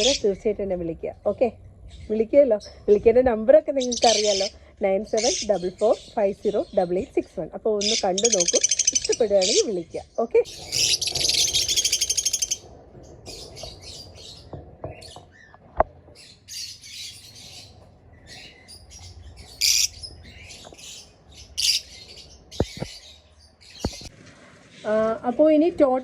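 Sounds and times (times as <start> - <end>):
parakeets chirping and squawking: 0.0 - 24.9.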